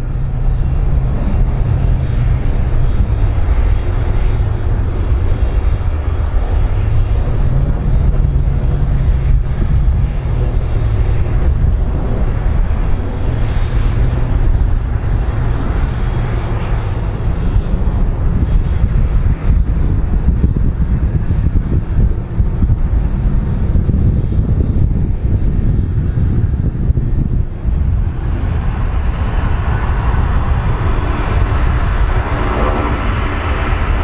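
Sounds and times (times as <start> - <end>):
jet engine rumble: 0.0 - 34.0.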